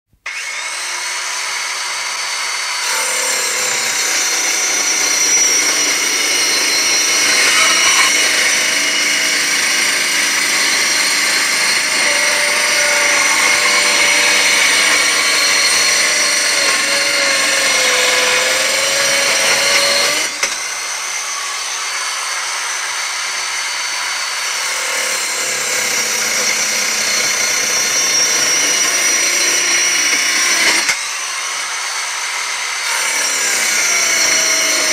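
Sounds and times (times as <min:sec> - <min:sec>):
circular saw cutting wood: 0:00.2 - 0:34.9.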